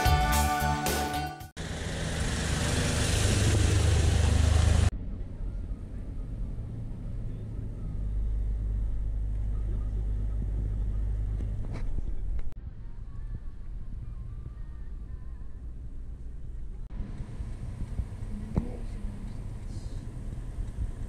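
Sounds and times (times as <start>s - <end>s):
car engine and road drone: 1.6s - 21.0s.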